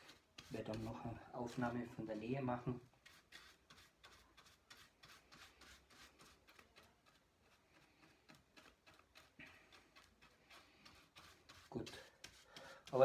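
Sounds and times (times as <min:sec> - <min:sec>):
paintbrush scratching on surface: 0:00.0 - 0:13.0.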